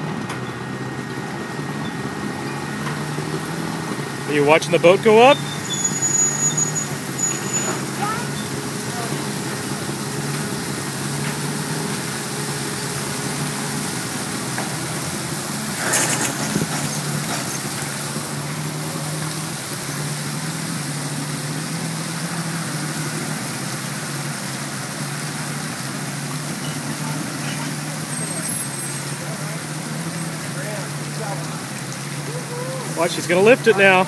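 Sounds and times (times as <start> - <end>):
boat lift engine running: 0.0 - 34.0.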